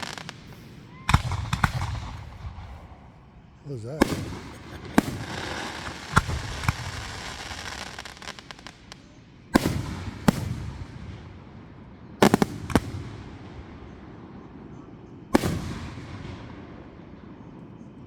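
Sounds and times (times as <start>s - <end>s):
fireworks bangs with rumbling echo: 0.0s - 17.6s
small firework crackles: 0.0s - 18.0s.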